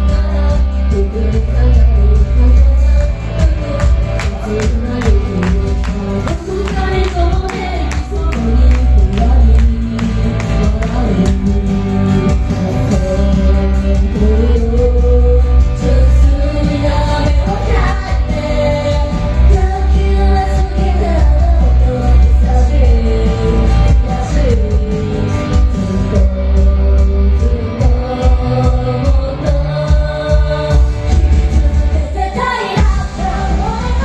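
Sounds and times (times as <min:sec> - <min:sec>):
live rock band playing: 0:00.0 - 0:34.0
person singing: 0:00.0 - 0:34.0.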